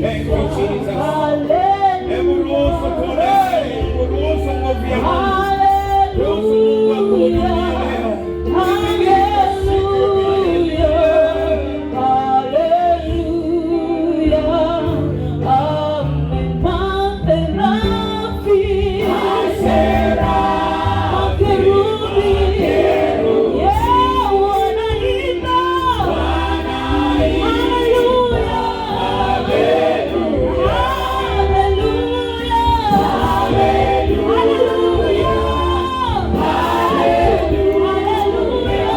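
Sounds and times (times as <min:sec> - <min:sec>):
choir singing: 0:00.0 - 0:13.2, 0:17.8 - 0:38.9
bass accompaniment: 0:00.0 - 0:38.9.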